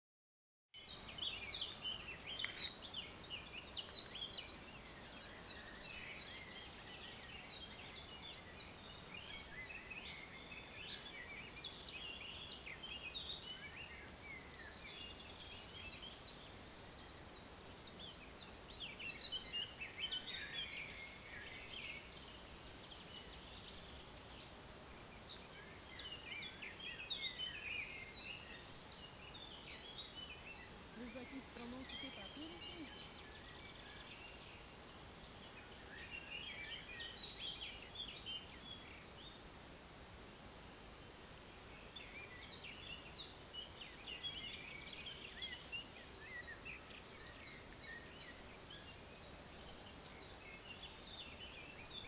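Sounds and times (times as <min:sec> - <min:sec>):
faint steady hiss: 0:00.8 - 0:52.0
small birds chirping: 0:00.8 - 0:52.0.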